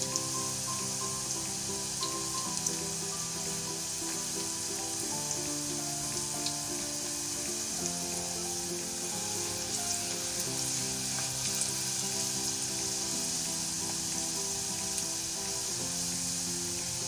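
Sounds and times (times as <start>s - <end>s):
garlic sizzling in hot oil: 0.0s - 17.0s
light background music: 0.0s - 17.0s.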